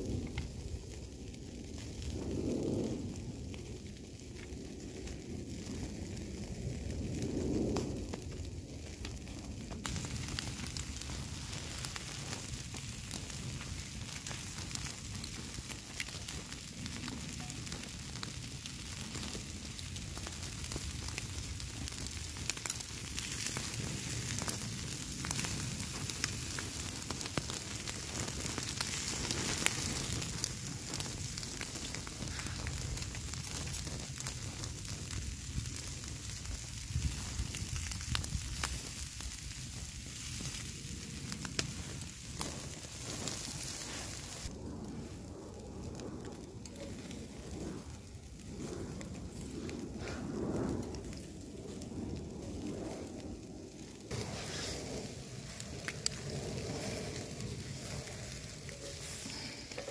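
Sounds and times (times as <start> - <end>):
pops and crackles: 0.0 - 59.9.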